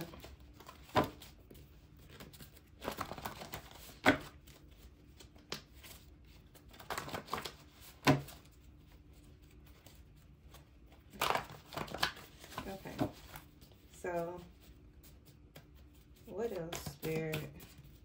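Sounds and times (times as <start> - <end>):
cards rustling: 0.0 - 18.0.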